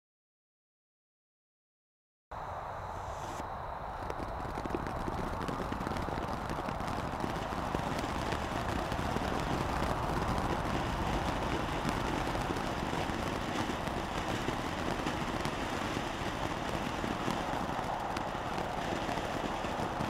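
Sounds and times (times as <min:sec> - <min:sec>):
firework crackles: 0:03.0 - 0:20.0
firework fountain hissing: 0:03.0 - 0:20.0.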